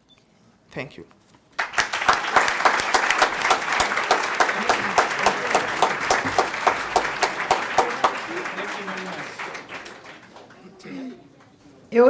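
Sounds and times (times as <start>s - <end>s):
audience applauding: 1.6s - 11.5s.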